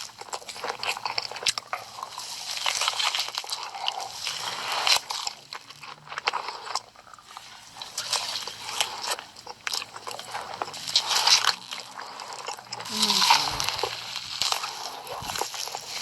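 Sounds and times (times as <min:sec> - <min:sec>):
crunching and chewing crisps: 0:00.0 - 0:16.0.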